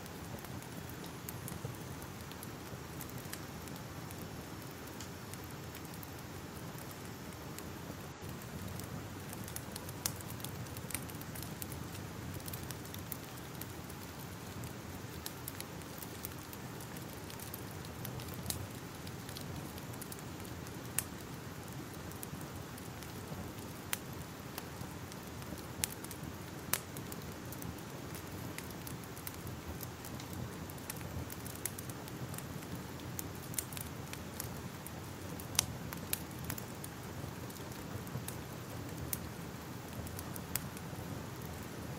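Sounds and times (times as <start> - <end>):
crackling fire with pops: 0.0 - 41.9.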